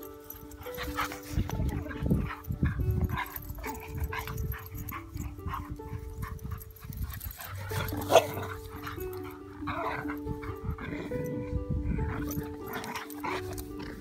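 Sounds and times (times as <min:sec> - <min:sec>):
slow melody background music: 0:00.0 - 0:14.0.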